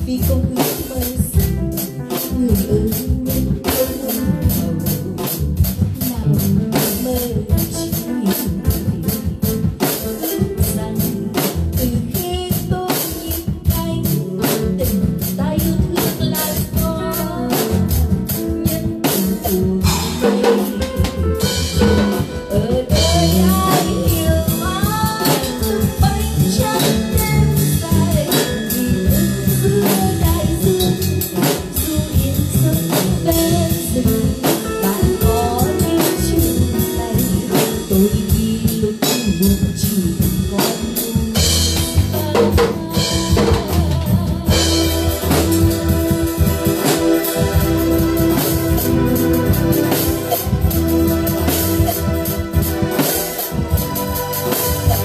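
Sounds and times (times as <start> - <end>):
drum kit with cymbals: 0.0 - 55.0
guitar: 0.0 - 55.0
person singing: 0.0 - 55.0.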